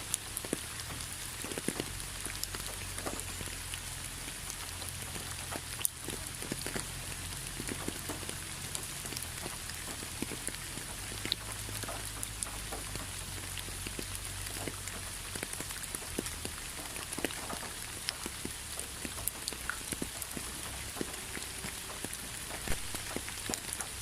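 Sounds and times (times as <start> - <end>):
rain falling: 0.0 - 24.0
raindrops ticking: 0.0 - 24.0.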